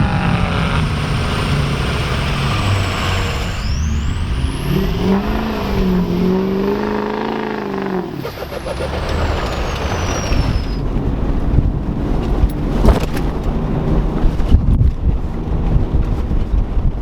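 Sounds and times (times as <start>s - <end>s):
vehicle rumbling over rough ground: 0.0s - 17.0s.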